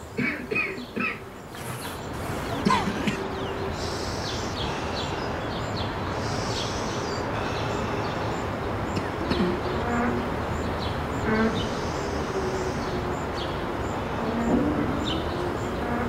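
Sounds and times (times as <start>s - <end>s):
birds chirping: 0.0s - 16.0s
steady background hiss: 0.0s - 16.0s.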